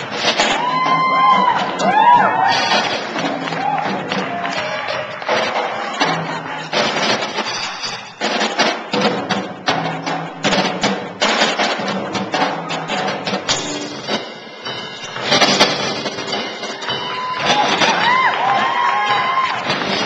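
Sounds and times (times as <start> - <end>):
live band playing: 0.0 - 20.0
loud drum and cymbal hits: 0.0 - 20.0.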